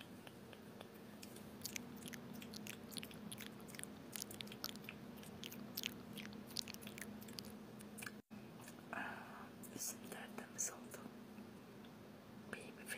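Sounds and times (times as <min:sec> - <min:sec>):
faint low hum: 0:00.0 - 0:12.9.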